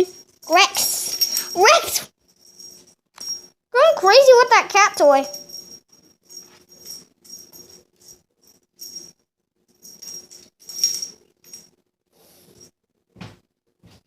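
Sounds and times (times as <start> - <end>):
small bell jingling: 0.0 - 11.7.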